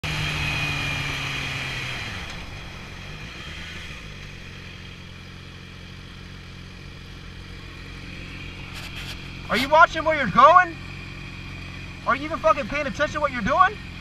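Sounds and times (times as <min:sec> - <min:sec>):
motorcycle engine slowing: 0:00.0 - 0:14.0.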